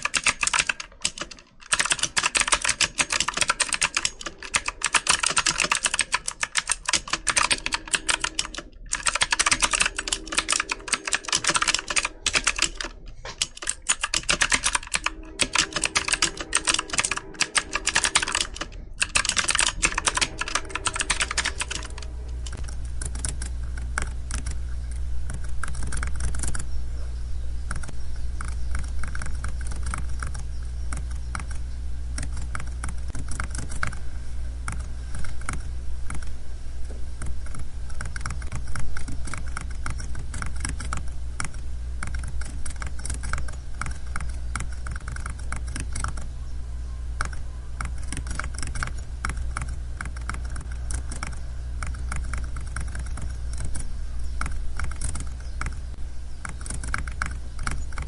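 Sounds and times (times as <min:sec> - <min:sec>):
keyboard typing clicks: 0:00.0 - 0:26.7, 0:27.7 - 0:31.6, 0:32.2 - 0:34.0, 0:37.2 - 0:46.3, 0:47.2 - 0:58.0
steady low hum: 0:00.0 - 0:58.0.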